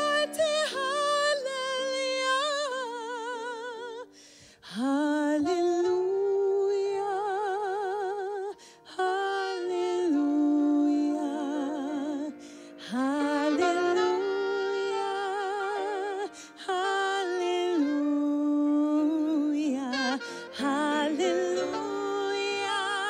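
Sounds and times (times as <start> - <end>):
saxophone slow melody: 0.0 - 23.0.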